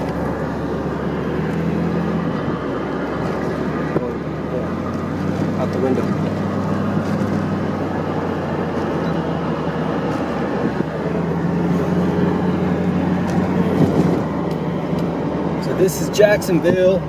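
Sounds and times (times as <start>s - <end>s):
car engine humming: 0.0s - 17.0s
road and wind noise: 0.0s - 17.0s.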